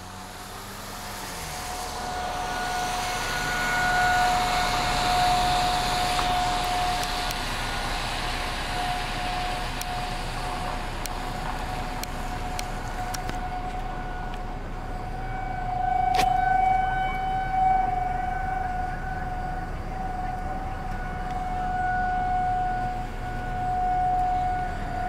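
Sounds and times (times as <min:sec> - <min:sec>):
warning siren steady tone: 0:00.0 - 0:25.0.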